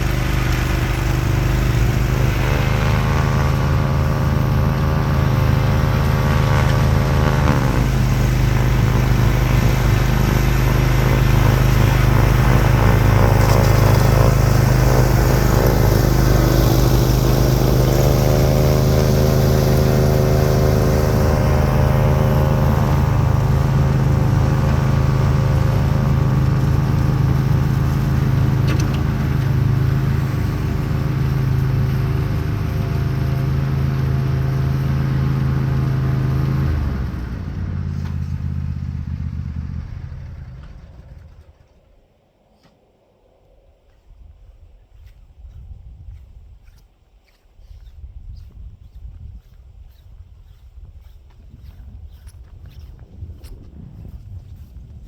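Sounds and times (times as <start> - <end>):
lawn tractor engine running: 0.0 - 42.8, 47.6 - 55.0
snowblower whine: 0.0 - 44.2, 44.8 - 55.0.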